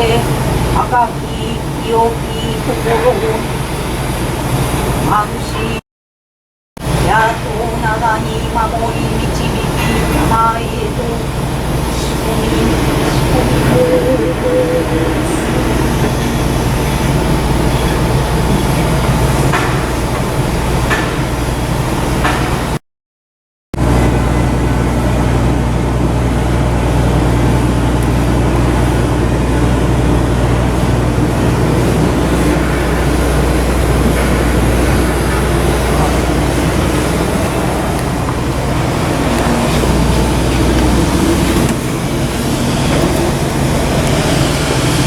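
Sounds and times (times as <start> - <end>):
engine-like rumble: 6.8 - 22.8, 23.8 - 45.0.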